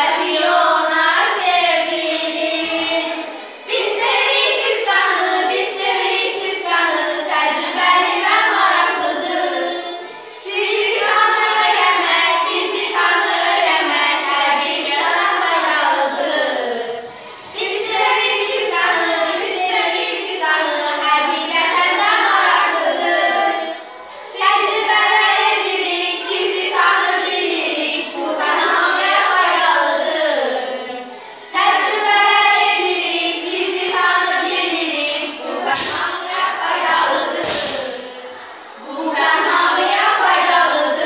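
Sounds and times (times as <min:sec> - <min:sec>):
girls singing together: 0:00.0 - 0:41.0.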